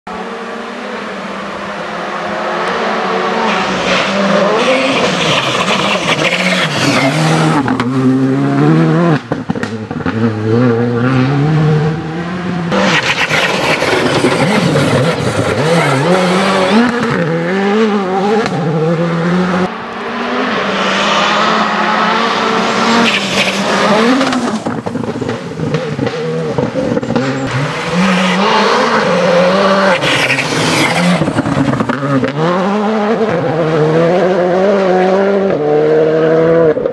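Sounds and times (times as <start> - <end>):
gravel and tyre noise: 0.1 - 36.9
rally car engine revving hard: 0.1 - 36.9.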